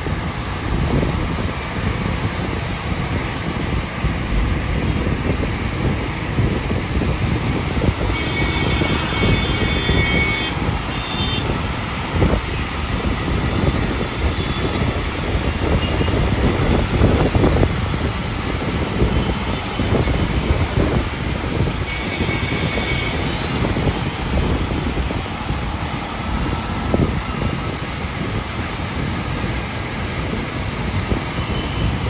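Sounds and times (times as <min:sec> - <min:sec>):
bus rumbling inside cabin: 0:00.0 - 0:32.0
road and wind noise: 0:00.0 - 0:32.0.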